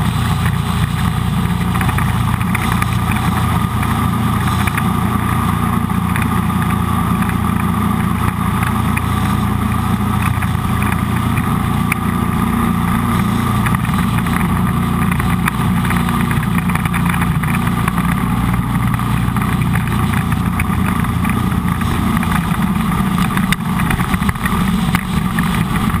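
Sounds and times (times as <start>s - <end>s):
boat engine running: 0.0s - 26.0s
hull moving through water: 0.0s - 26.0s.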